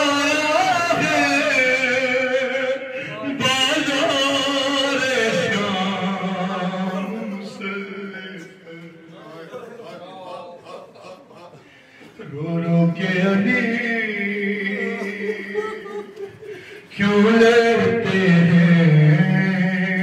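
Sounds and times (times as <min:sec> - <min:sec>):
man singing a lament: 0:00.0 - 0:09.4, 0:10.6 - 0:20.0.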